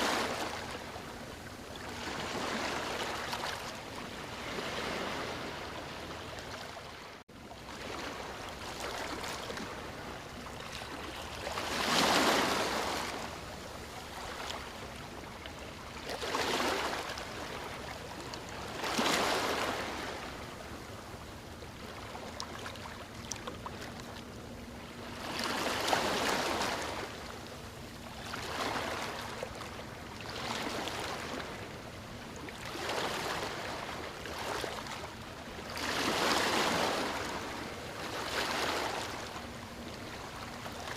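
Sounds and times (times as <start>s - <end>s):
ocean waves breaking on a beach: 0.0s - 40.9s.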